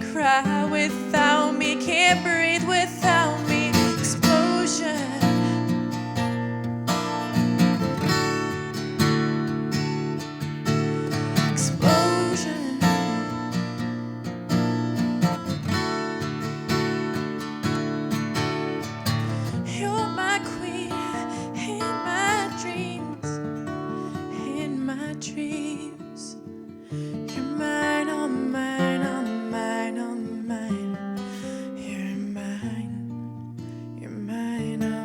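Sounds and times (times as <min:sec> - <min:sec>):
acoustic guitar strummed and picked: 0:00.0 - 0:35.0.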